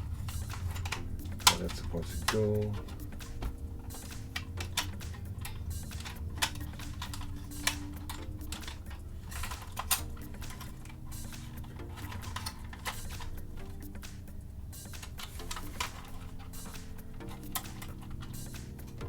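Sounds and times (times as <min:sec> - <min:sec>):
faint background music: 0:00.0 - 0:19.0
plastic parts snapping: 0:00.0 - 0:19.0
plastic toy parts clicking: 0:00.0 - 0:19.0.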